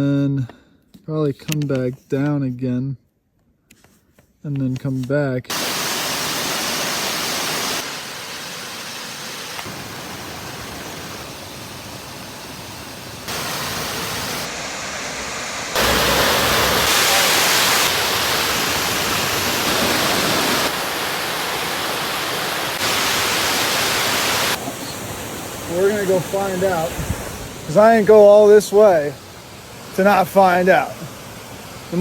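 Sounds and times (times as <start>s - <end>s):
rushing water roar: 5.5s - 32.0s.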